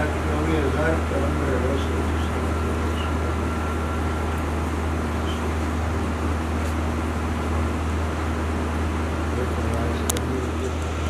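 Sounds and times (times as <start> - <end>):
constant hiss: 0.0 - 11.0
faint steady tone: 0.0 - 11.0
low mechanical hum: 0.0 - 11.0.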